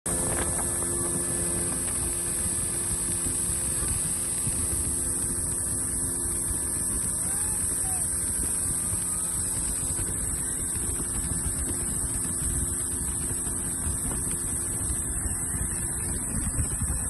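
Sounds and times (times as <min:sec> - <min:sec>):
engine droning: 0:00.1 - 0:17.0.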